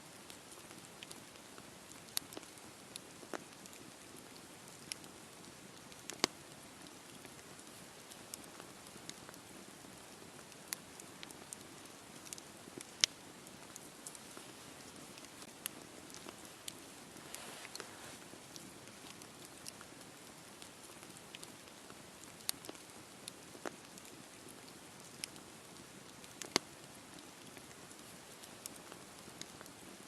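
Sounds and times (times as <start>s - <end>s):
campfire crackling and popping: 0.1s - 30.0s.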